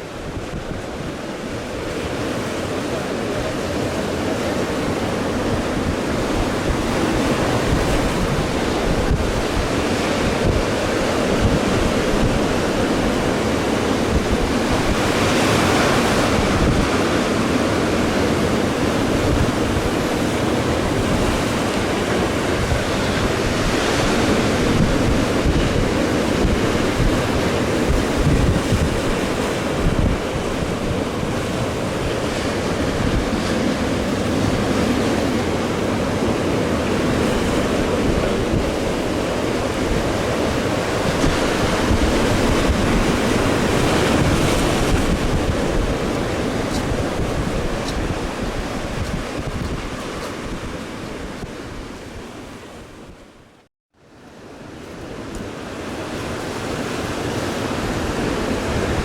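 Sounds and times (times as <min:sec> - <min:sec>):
wind buffeting microphone: 0:00.0 - 0:53.5, 0:54.6 - 0:59.0
sea waves breaking on shore: 0:00.0 - 0:59.0.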